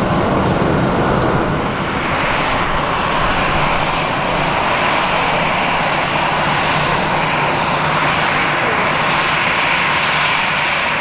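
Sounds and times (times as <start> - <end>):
airliner engines running: 0.0 - 11.0.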